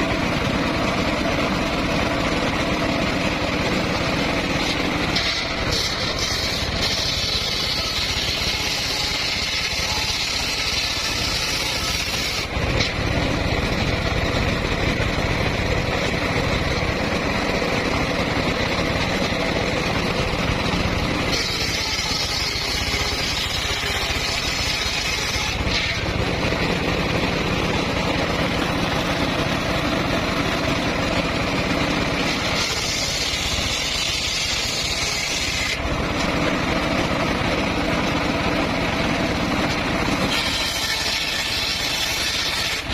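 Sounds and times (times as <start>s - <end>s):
saw blade whine cutting wood: 0.0s - 42.9s
sawmill machine drone: 0.0s - 42.9s.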